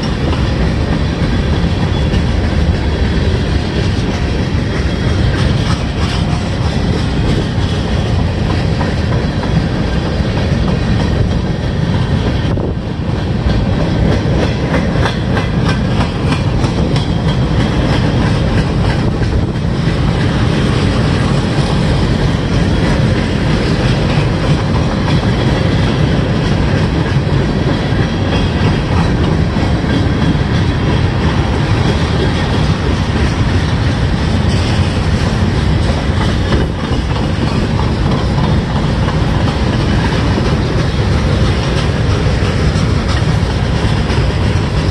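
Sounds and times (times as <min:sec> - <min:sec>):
train wheels rumbling on rail: 0:00.0 - 0:44.9
wheels clacking over rail joints: 0:00.0 - 0:44.9.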